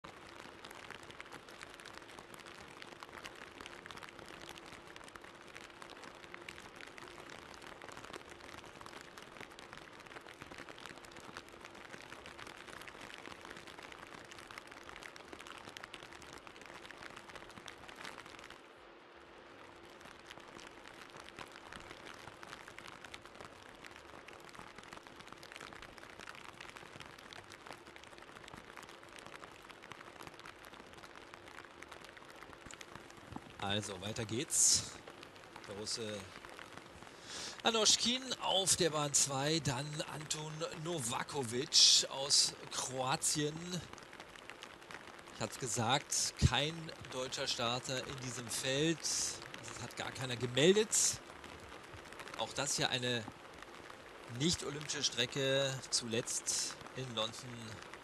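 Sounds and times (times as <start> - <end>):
faint steady hum: 0.0 - 58.0
steady rain patter: 0.0 - 58.0.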